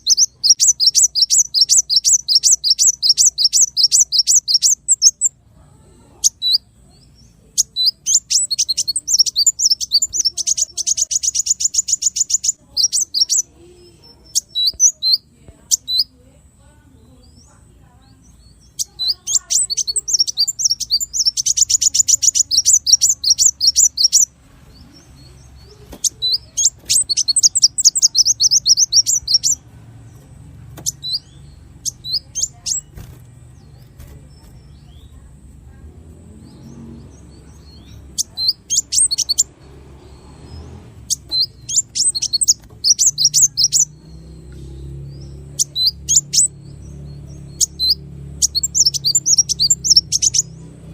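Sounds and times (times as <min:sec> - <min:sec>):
songbirds rapid chirps and trills: 0:00.0 - 0:50.9.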